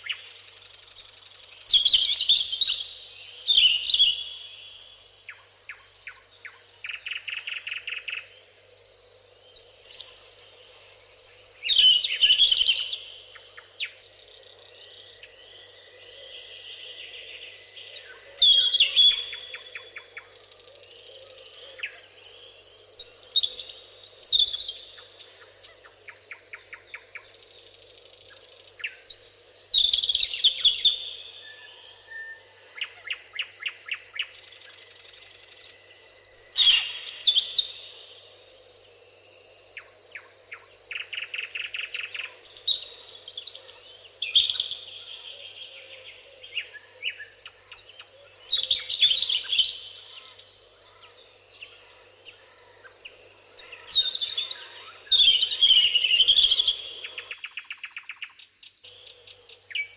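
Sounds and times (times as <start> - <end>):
songbirds singing and trilling: 0.0 - 59.9.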